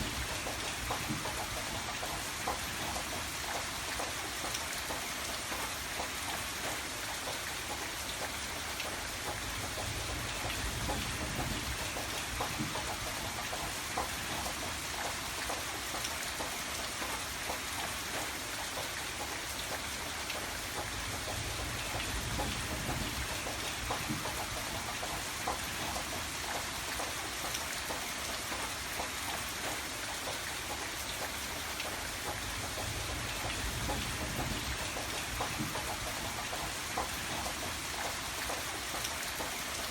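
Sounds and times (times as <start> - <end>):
rain drops ticking on hard surface: 0.0 - 39.9.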